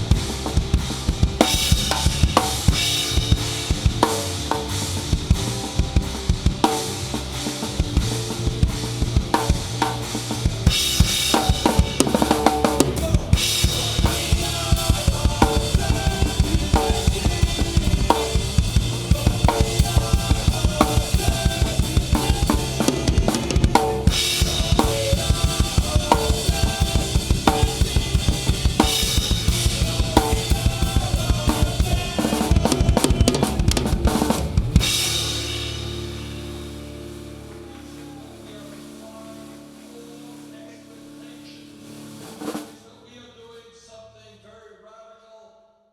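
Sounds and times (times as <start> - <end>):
rock band playing: 0.0 - 42.8.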